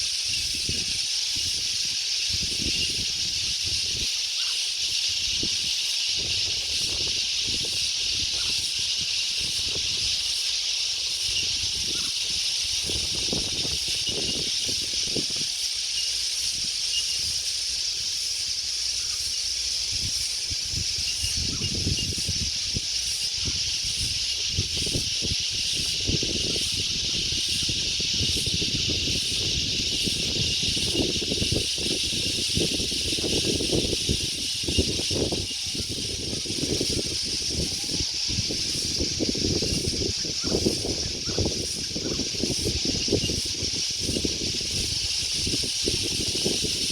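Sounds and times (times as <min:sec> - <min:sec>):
high-pitched insect drone: 0:00.0 - 0:46.9
wind gusting on microphone: 0:00.0 - 0:46.9.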